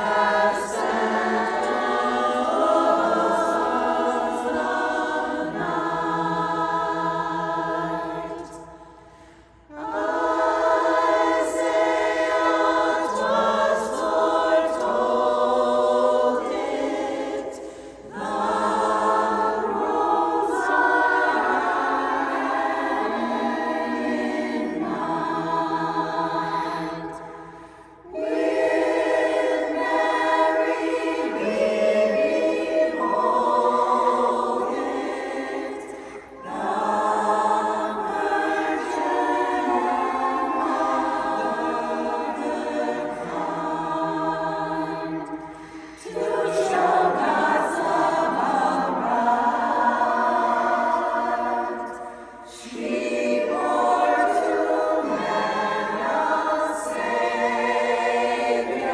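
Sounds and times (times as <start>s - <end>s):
a cappella chorus singing: 0.0s - 58.9s.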